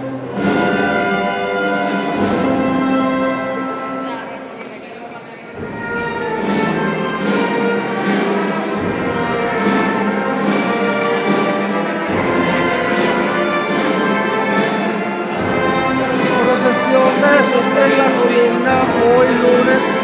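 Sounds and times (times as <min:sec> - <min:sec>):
brass band playing a slow march: 0:00.0 - 0:20.0.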